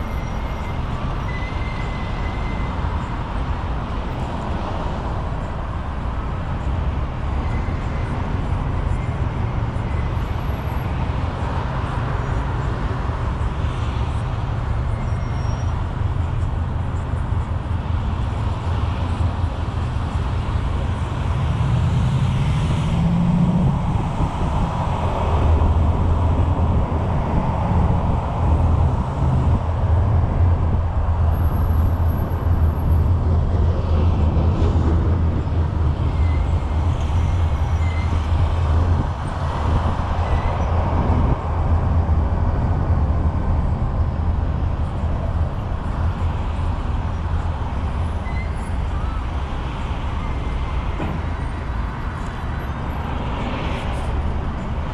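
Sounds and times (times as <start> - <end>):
cars passing on a road: 0.0 - 54.9.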